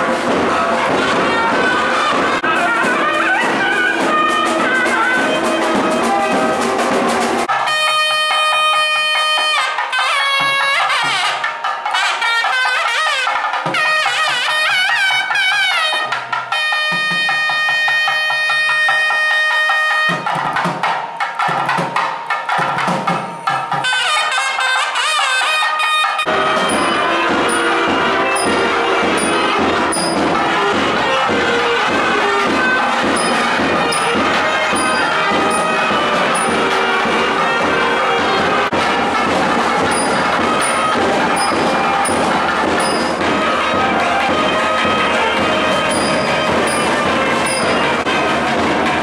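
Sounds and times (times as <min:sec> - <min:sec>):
double-reed pipe melody: 0:00.0 - 0:20.5, 0:23.7 - 0:48.8
drum strokes: 0:00.0 - 0:49.0.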